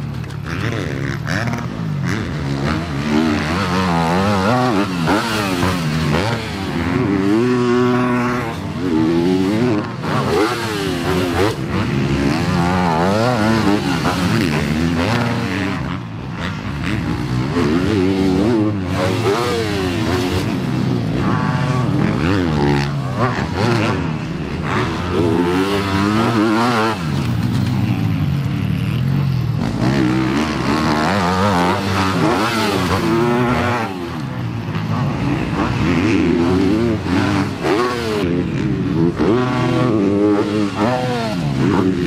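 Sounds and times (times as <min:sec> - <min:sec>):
motocross bikes revving: 0:00.0 - 0:42.0.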